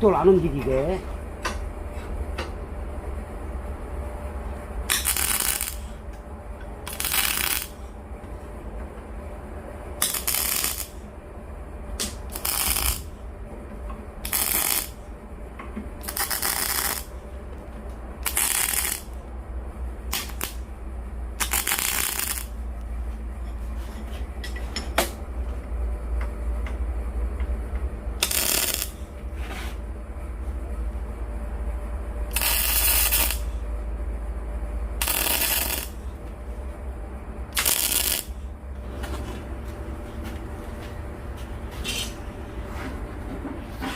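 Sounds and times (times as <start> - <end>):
low hum: 0.0 - 43.9.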